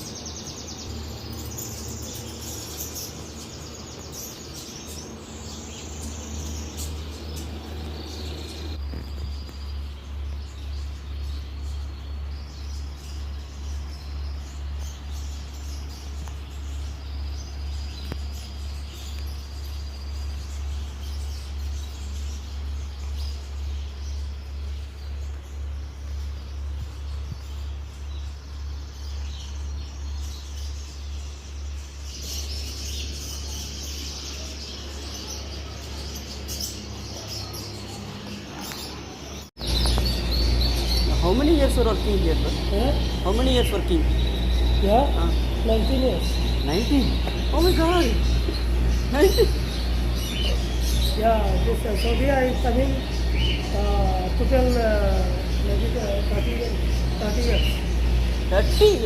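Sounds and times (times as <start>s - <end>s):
throbbing low hum: 0.0s - 38.0s, 39.6s - 59.0s
cage birds chirping: 0.0s - 59.0s.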